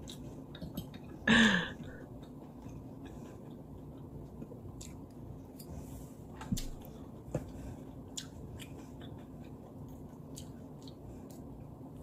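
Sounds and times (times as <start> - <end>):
chewing: 0.0 - 1.2, 2.1 - 5.8, 6.5 - 12.0.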